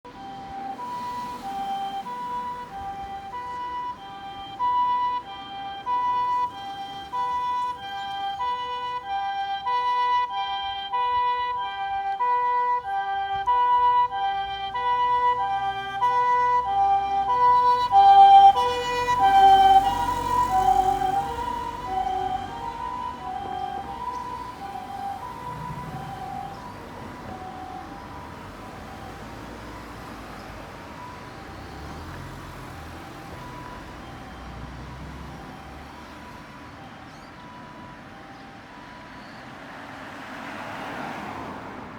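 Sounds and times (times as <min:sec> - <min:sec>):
two-tone ambulance siren: 0:00.0 - 0:41.9
vehicle road rumble: 0:00.0 - 0:41.9.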